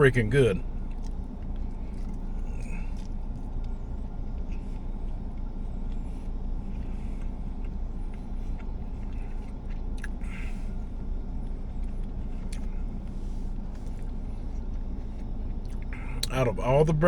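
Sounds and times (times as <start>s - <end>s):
steady low rumble: 0.0s - 17.0s
person chewing food: 0.6s - 16.3s.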